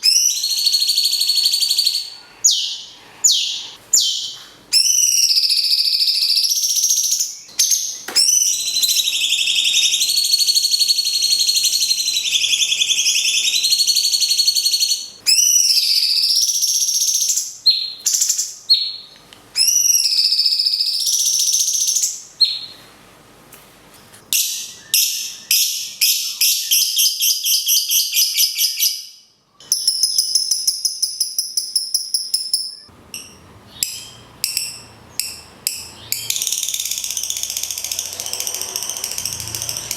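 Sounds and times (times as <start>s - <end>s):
songbirds whistling: 0.0s - 22.8s, 24.3s - 32.9s, 33.7s - 39.9s.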